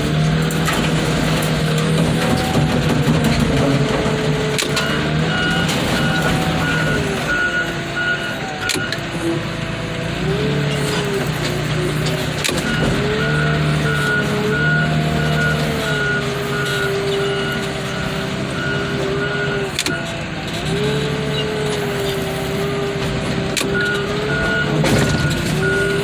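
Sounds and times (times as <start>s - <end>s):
diesel engine running: 0.0s - 26.0s
reversing alarm beeping: 1.9s - 9.6s, 12.0s - 20.1s, 20.7s - 26.0s.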